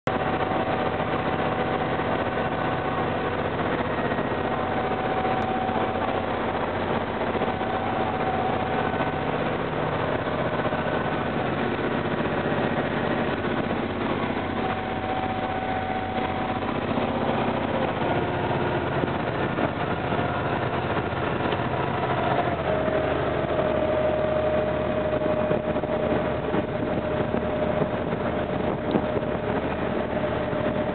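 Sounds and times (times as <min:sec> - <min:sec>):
boat engine running: 0:00.0 - 0:30.9
wash of noise: 0:00.0 - 0:30.9.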